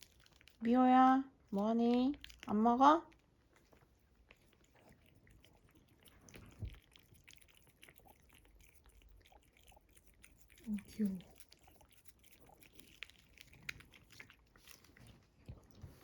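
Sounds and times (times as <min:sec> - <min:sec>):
cat crunching food: 0:00.0 - 0:00.6, 0:02.1 - 0:16.0.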